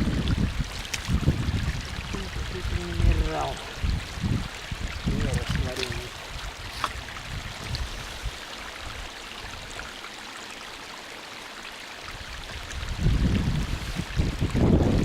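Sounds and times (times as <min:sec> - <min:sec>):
wind buffeting microphone: 0:00.0 - 0:09.8, 0:12.1 - 0:15.0
water rushing in stream: 0:00.0 - 0:15.0.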